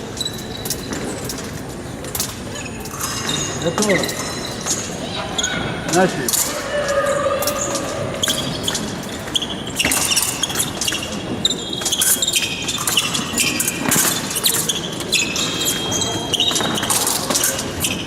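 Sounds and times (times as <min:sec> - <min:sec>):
shoes squeaking on floor: 0:00.0 - 0:18.0.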